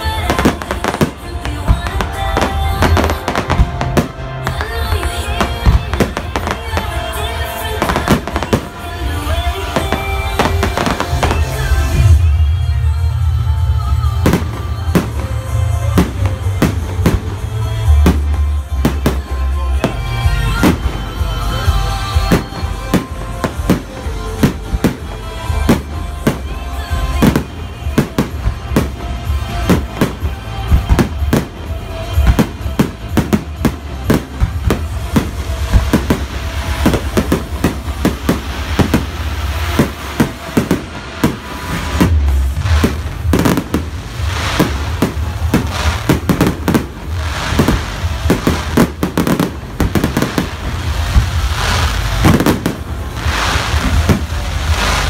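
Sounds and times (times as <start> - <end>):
fireworks bangs: 0.0 - 55.0
music playing: 0.0 - 55.0.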